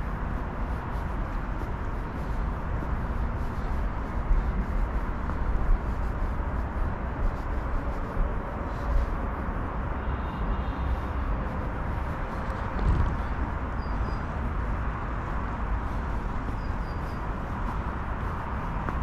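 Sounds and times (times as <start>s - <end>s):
outdoor low rumble: 0.0s - 19.0s.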